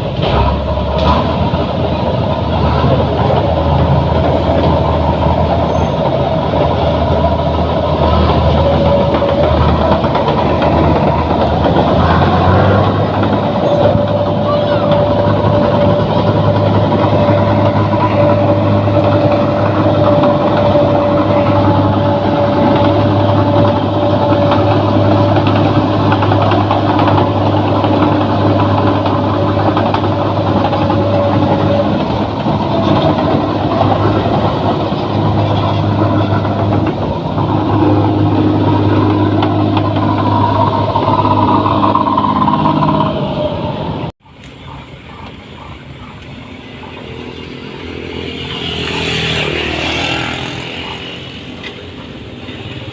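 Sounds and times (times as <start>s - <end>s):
combine harvester engine drone: 0.0s - 52.9s
machinery whine: 0.0s - 52.9s.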